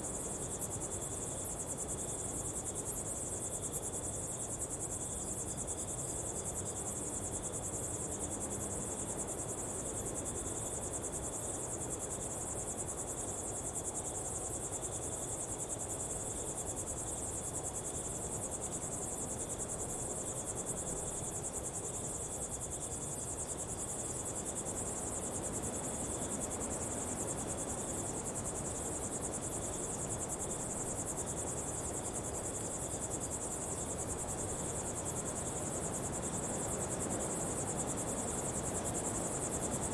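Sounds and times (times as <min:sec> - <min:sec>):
insects trilling: 0:00.0 - 0:39.9
lower insect trill: 0:00.0 - 0:39.9.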